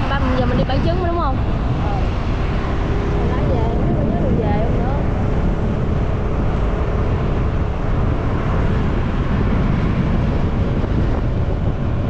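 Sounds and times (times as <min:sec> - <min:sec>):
motorcycle engine rumbling: 0:00.0 - 0:12.0
wind buffeting microphone: 0:00.0 - 0:12.0.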